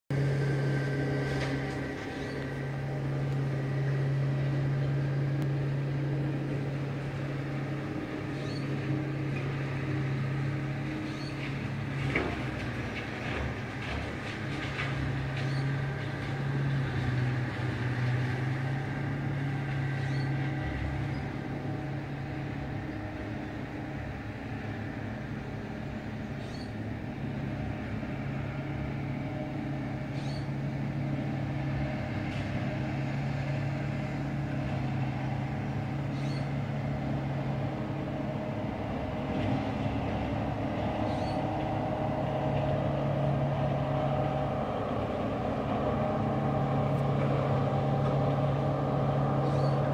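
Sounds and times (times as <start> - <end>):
low engine hum: 0.0 - 49.9.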